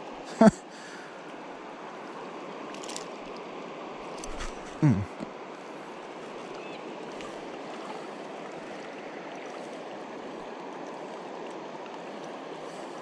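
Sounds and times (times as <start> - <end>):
river current rushing: 0.1 - 13.0.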